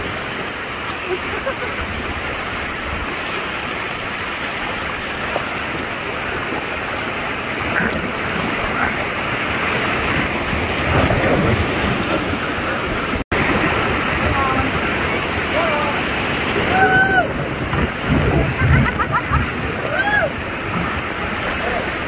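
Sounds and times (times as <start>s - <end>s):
river rapids rushing: 0.0s - 22.0s.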